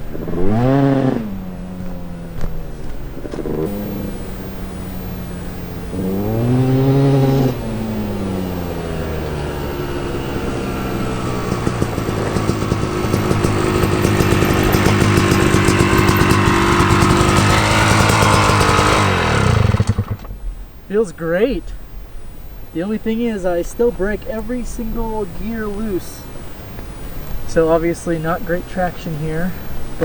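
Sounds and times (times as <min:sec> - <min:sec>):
two-stroke motorcycle engine revving: 0:00.0 - 0:30.0.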